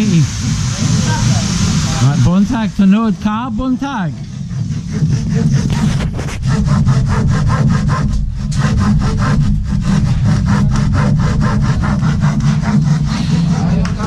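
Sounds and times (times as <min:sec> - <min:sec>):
saw cutting wood: 0:00.0 - 0:14.0
steady low hum: 0:00.0 - 0:14.0.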